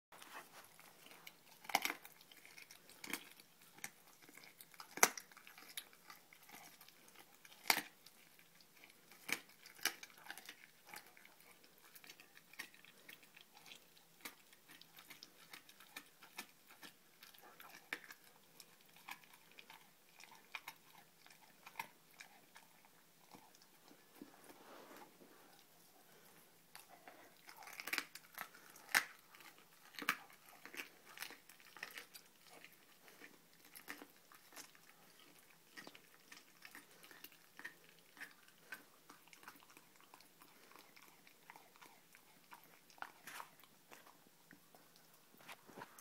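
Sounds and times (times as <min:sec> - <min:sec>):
dog chewing and crunching bone: 0:00.1 - 0:46.0.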